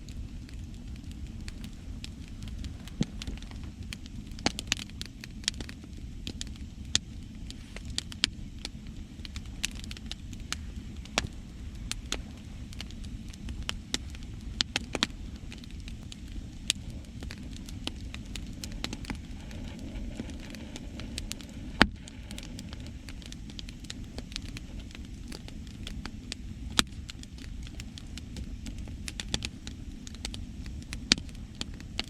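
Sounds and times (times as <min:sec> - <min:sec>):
low rumble of sea waves: 0:00.0 - 0:32.0
wood fire crackling and popping: 0:00.0 - 0:32.0.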